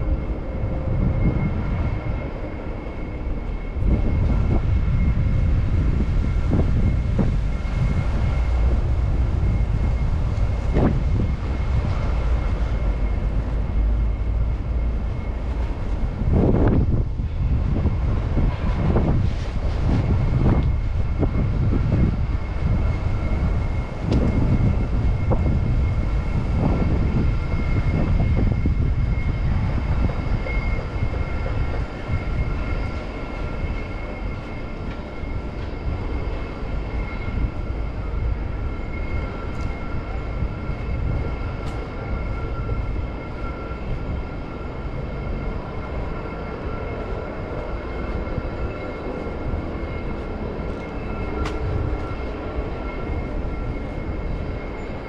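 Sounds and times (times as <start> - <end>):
train rumble with high whine: 0.0 - 55.0.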